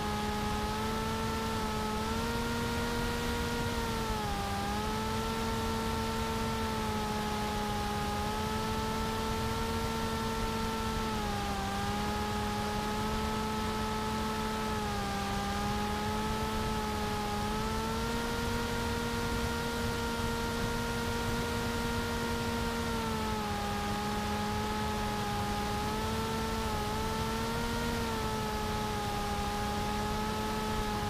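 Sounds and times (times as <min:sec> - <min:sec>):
electric motor and propeller buzzing: 0:00.0 - 0:31.0.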